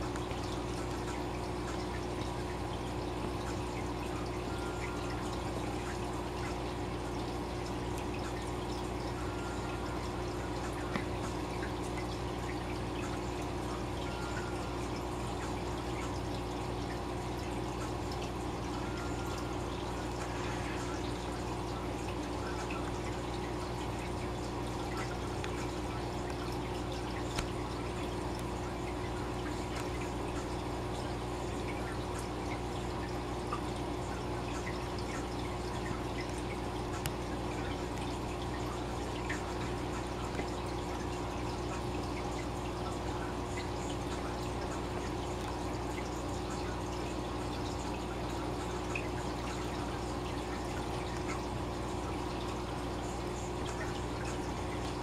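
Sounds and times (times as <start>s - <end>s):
aquarium equipment hum: 0.0s - 55.0s
water dripping and trickling: 0.0s - 55.0s.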